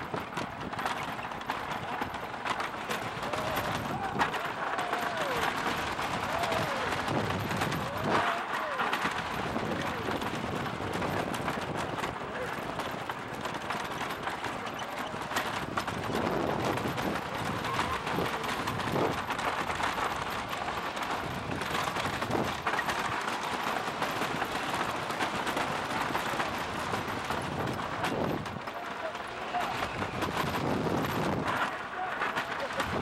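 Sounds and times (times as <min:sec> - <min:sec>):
roller coaster wheels clattering: 0:00.0 - 0:33.0.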